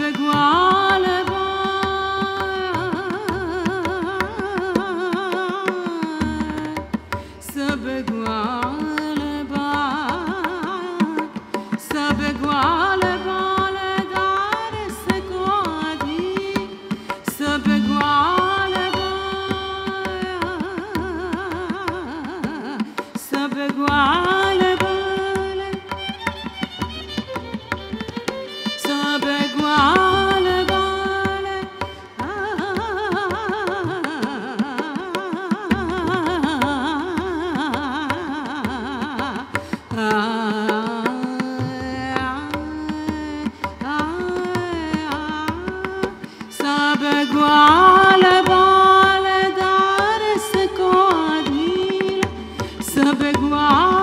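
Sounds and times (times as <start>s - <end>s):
woman singing ornamented phrases: 0.0s - 25.9s, 28.8s - 54.0s
tabla: 0.0s - 54.0s.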